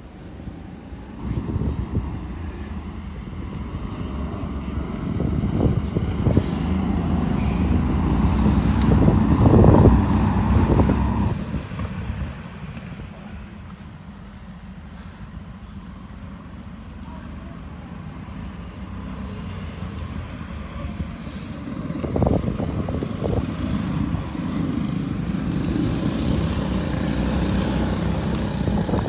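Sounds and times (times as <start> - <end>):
go-kart engines passing: 0.0 - 14.1, 15.8 - 29.0.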